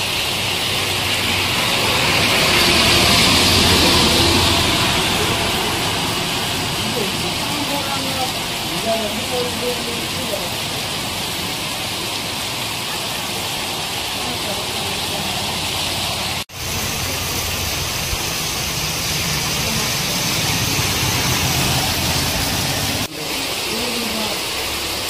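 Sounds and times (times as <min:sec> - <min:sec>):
auto-rickshaw engine passing: 0:00.0 - 0:23.1
heavy rain on a wet road: 0:00.0 - 0:25.0.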